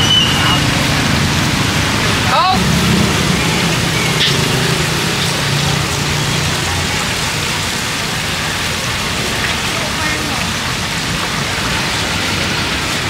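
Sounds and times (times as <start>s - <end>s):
oil sizzling in a deep-fryer: 0.1s - 13.0s.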